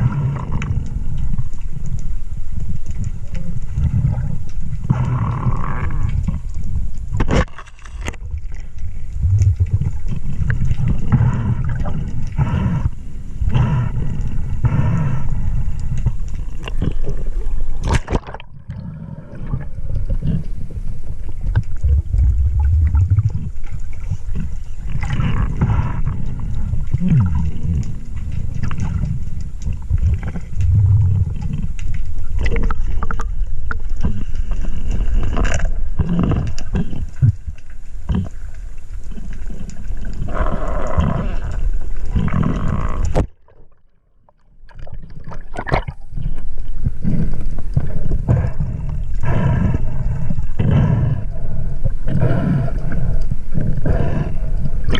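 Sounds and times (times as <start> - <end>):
muffled rumbling underwater noise: 0.0 - 54.9.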